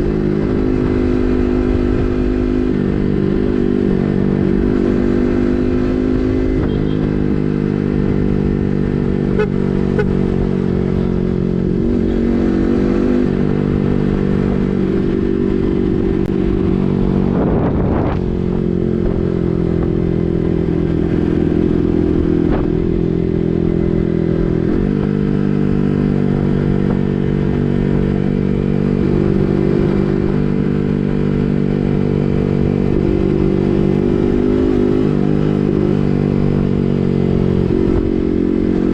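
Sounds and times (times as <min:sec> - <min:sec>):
motorcycle engine exhaust note: 0:00.0 - 0:38.9.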